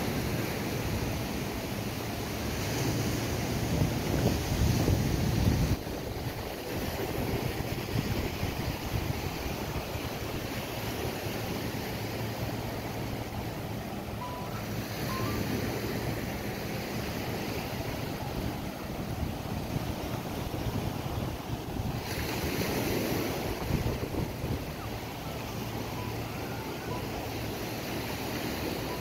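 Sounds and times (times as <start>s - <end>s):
small waves washing onto sand: 0.0s - 29.0s
wind buffeting microphone: 2.6s - 29.0s.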